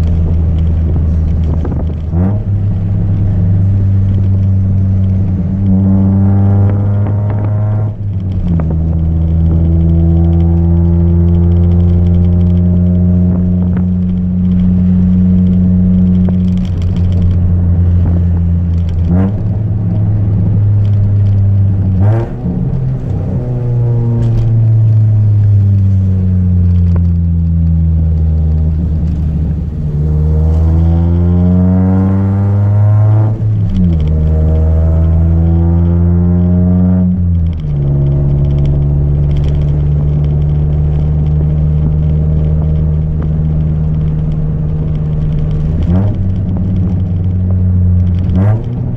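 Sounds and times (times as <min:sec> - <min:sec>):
loud car engine: 0:00.0 - 0:48.9.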